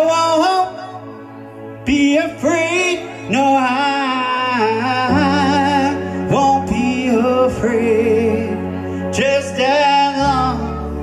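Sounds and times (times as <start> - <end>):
electric keyboard: 0.0 - 11.0
lead vocal singing long notes: 0.0 - 11.0
steady low notes: 0.0 - 11.0.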